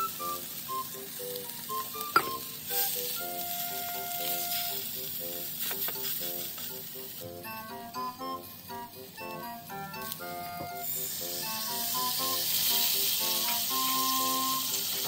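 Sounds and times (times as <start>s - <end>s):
fish sizzling in a frying pan: 0.0s - 7.4s, 9.8s - 15.0s
light plucked background music: 0.0s - 15.0s.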